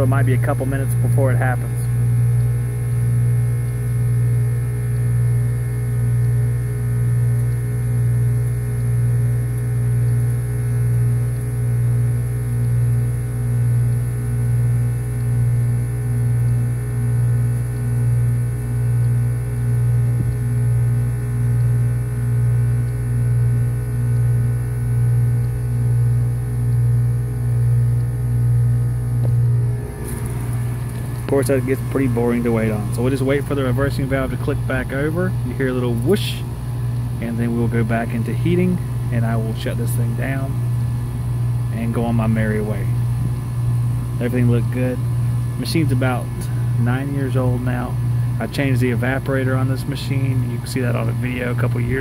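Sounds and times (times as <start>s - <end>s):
loud compressor hum: 0.0s - 52.0s.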